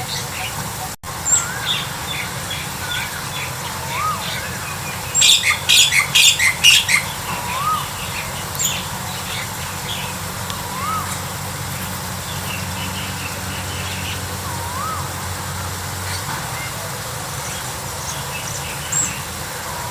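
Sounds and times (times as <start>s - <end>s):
birds whistling: 0.0s - 19.9s
harsh squawking chatter: 0.0s - 19.9s.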